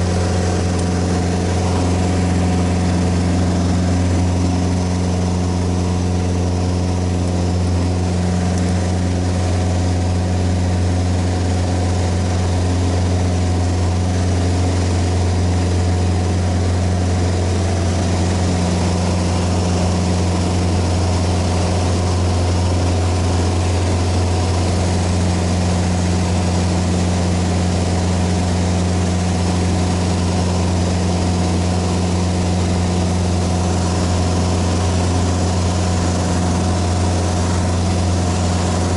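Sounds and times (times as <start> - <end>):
light aircraft engine drone: 0.0 - 38.9.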